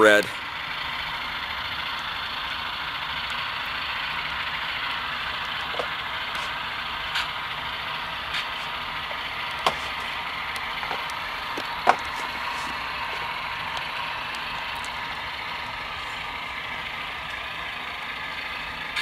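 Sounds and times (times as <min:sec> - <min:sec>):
model diesel engine idling hum: 0:00.0 - 0:19.0.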